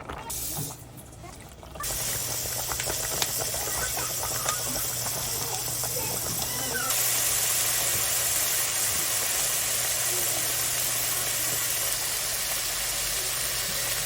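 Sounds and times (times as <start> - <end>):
stew hissing in pot: 1.8 - 14.0.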